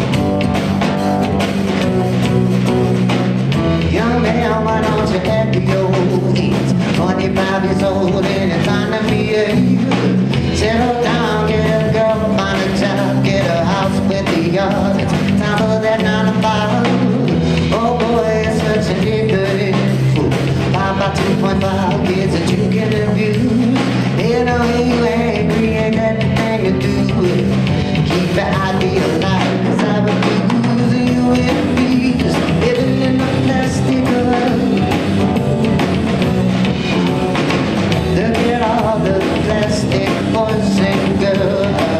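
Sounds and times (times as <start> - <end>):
bass guitar: 0.0 - 41.9
drum kit: 0.0 - 41.9
person singing: 3.6 - 41.9.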